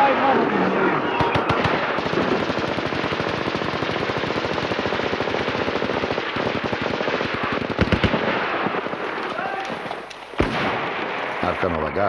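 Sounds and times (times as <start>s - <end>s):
machine gun automatic fire: 1.2s - 11.6s.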